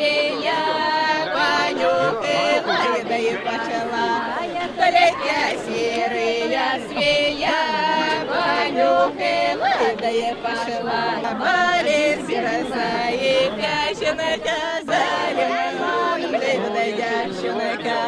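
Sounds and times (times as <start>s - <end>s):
group singing in chorus: 0.0s - 18.0s.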